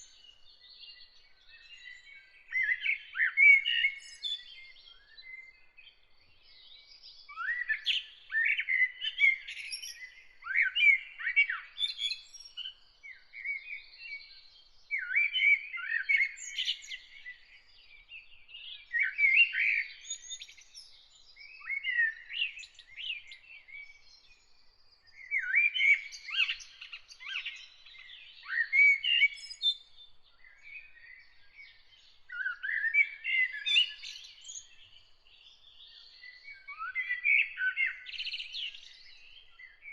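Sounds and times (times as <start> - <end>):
songbird warbling chirps: 0.0 - 39.9.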